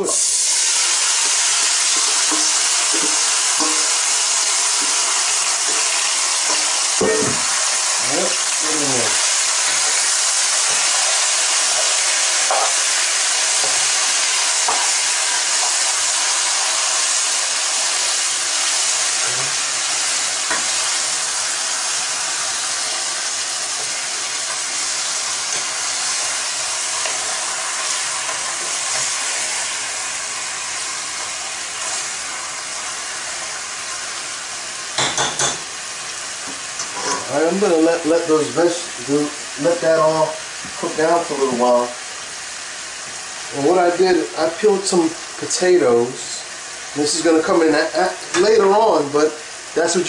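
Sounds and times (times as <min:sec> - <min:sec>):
chicken and vegetables sizzling: 0:00.0 - 0:50.0.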